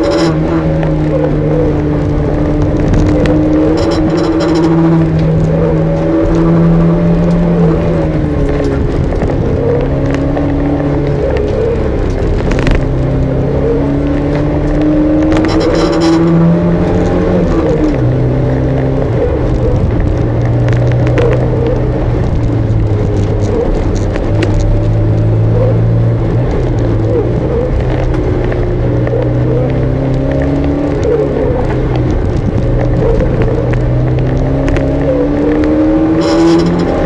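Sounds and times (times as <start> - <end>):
car engine revving in cabin: 0.0 - 37.0.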